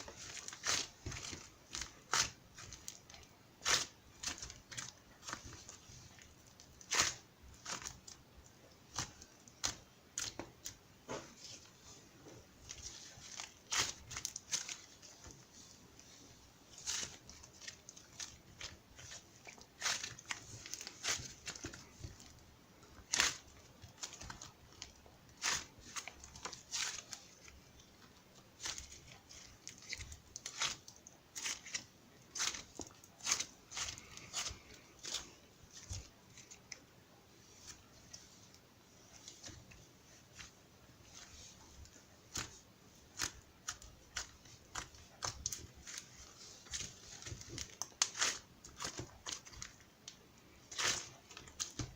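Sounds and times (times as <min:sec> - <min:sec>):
crinkling and crackling handling: 0:00.0 - 0:51.9.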